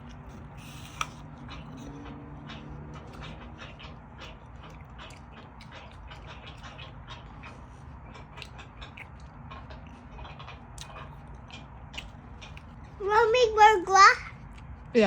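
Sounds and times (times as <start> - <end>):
crunchy apple chewing: 0.0 - 13.0
low background hum: 0.0 - 15.0.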